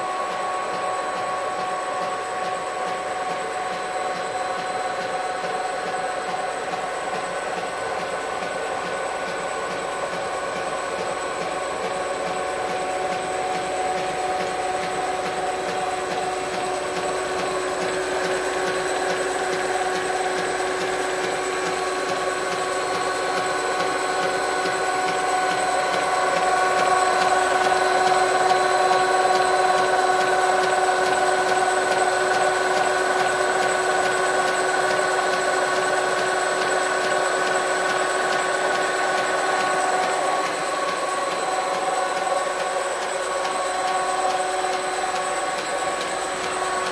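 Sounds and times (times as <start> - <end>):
lathe mechanical whine: 0.0 - 46.9.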